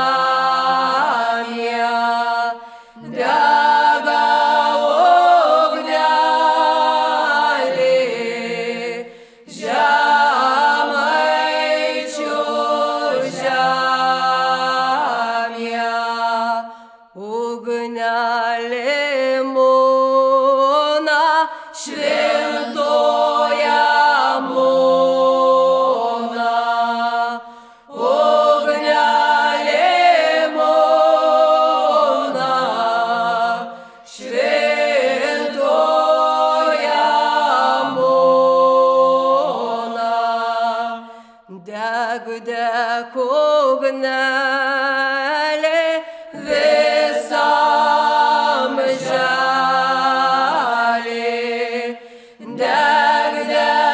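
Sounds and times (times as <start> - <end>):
voices chanting in harmony: 0.0 - 53.9.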